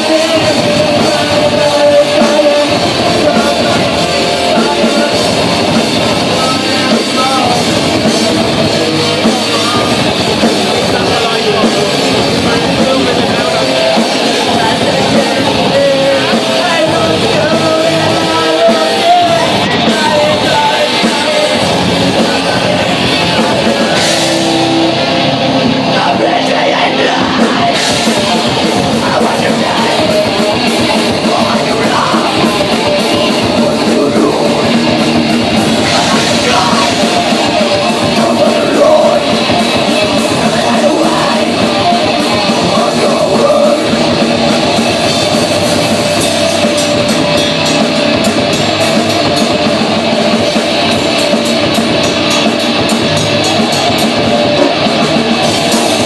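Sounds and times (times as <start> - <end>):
drum kit: 0.0 - 56.0
electric guitars: 0.0 - 56.0
live rock band playing: 0.0 - 56.0
person singing: 0.0 - 56.0.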